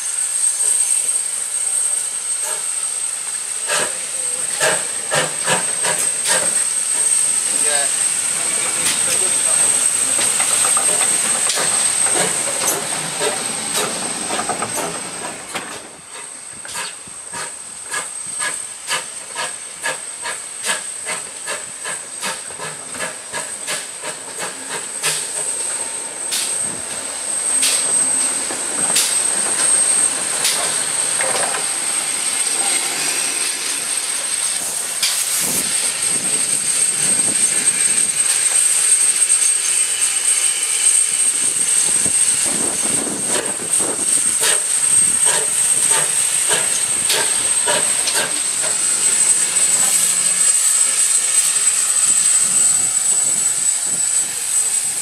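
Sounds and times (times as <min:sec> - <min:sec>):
steam locomotive chugging: 0:00.0 - 0:55.0.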